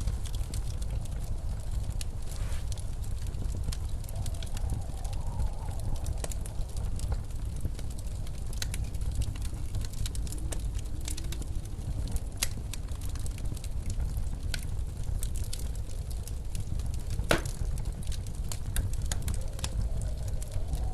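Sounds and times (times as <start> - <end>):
blizzard wind rumble: 0.0 - 20.9
wood fire crackling: 0.0 - 20.9.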